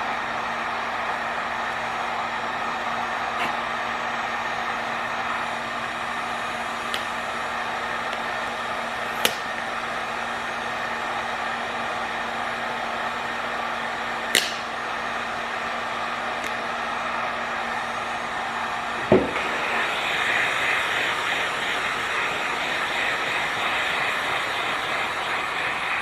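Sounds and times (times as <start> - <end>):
heat gun blowing: 0.0 - 26.0.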